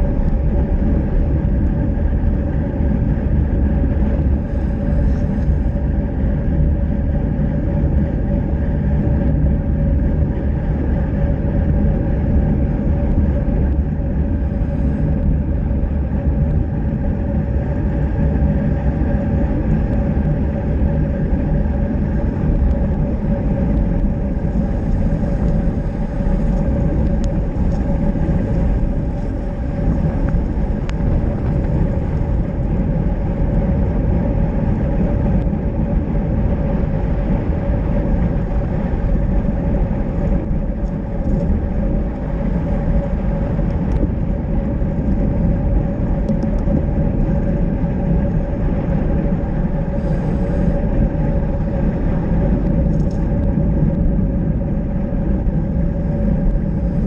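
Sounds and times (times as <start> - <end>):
wind rushing over camera: 0.0 - 57.0.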